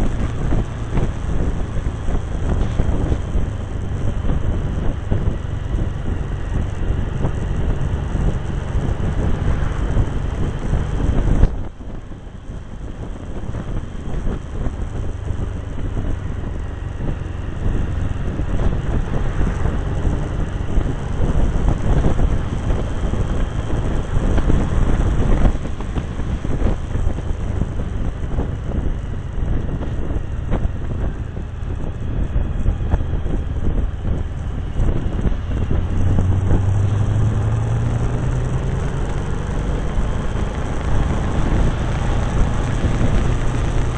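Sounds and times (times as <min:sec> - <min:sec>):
motorcycle engine and road noise: 0:00.0 - 0:43.9
wind buffeting microphone: 0:00.0 - 0:43.9.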